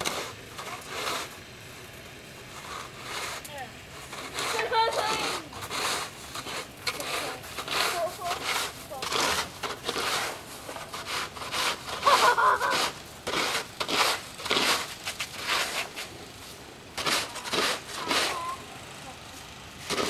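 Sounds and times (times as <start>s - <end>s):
snow shovel scraping pavement: 0.0s - 20.0s.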